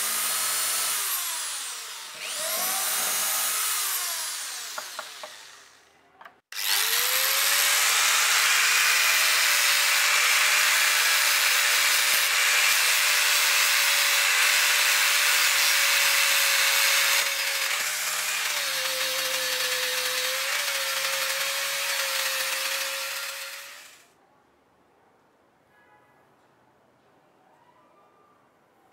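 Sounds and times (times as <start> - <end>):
angle grinder sanding wood: 0.0 - 5.8, 6.6 - 24.0.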